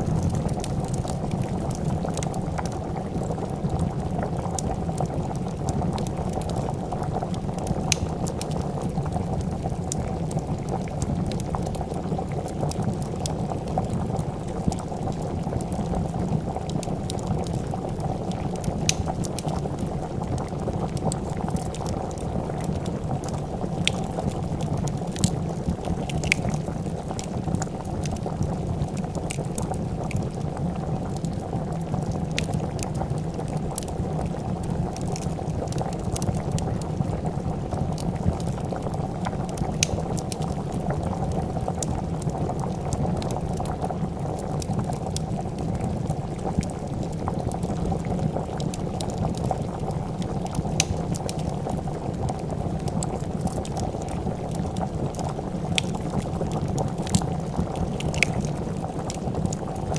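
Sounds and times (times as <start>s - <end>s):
soup bubbling in a pot: 0.0s - 59.9s
wood fire popping and crackling: 0.0s - 59.9s.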